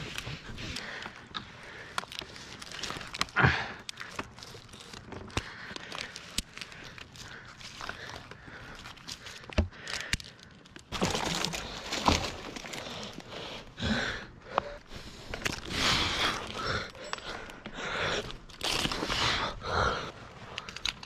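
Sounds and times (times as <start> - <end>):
rustling and crunching: 0.0 - 21.0.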